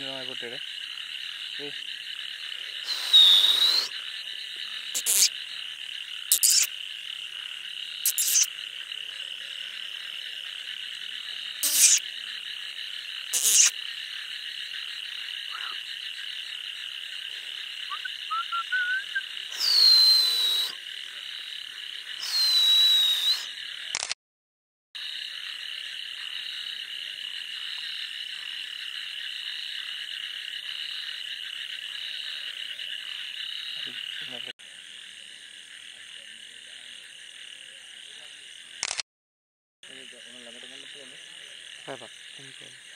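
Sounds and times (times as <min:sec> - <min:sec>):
loud single frog calls: 0:00.0 - 0:09.0, 0:09.6 - 0:24.1, 0:25.0 - 0:37.7
high trilling frog chorus: 0:00.0 - 0:23.9, 0:25.0 - 0:38.8.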